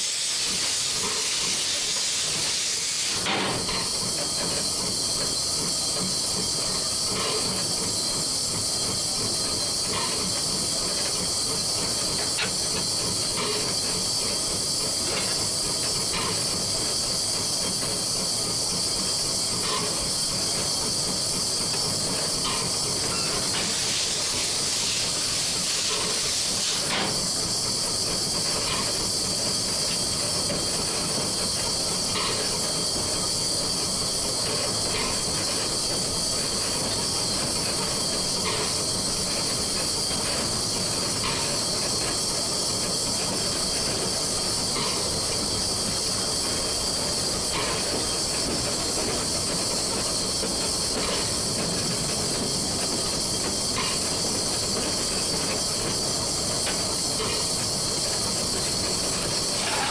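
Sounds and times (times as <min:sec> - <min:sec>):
steam hissing: 0:00.0 - 0:59.9.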